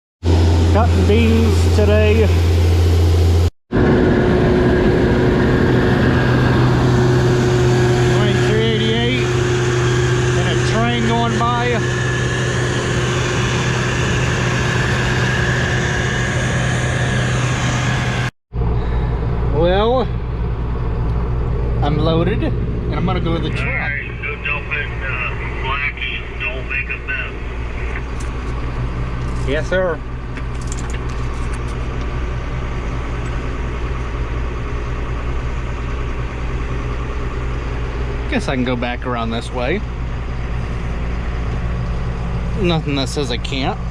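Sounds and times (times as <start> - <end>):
tractor engine droning: 0.2 - 43.9.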